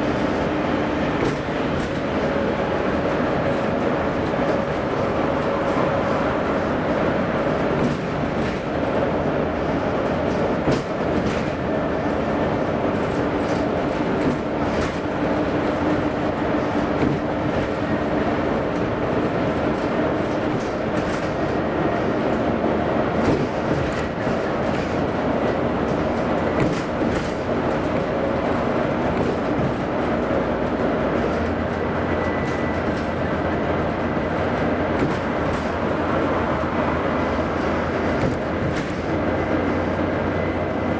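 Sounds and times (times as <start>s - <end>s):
bus diesel engine running: 0.0s - 40.9s
tyre and road noise: 0.0s - 40.9s.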